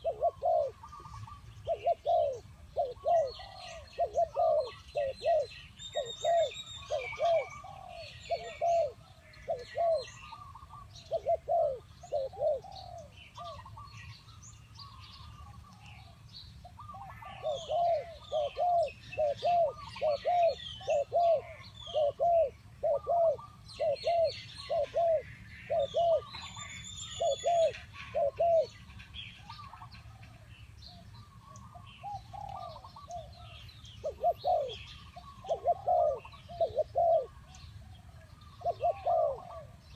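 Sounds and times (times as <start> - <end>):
dove cooing: 0.0 - 14.2, 14.8 - 39.9
small birds chirping: 0.0 - 39.9.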